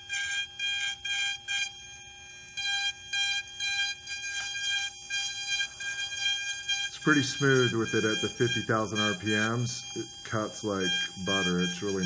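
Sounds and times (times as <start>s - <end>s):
micromotor high whine: 0.0s - 12.0s.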